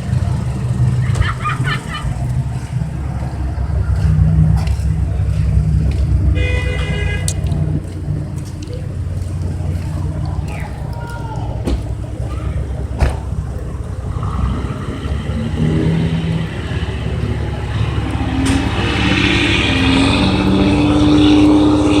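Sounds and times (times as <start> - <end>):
large vehicle engine running: 0.0 - 22.0.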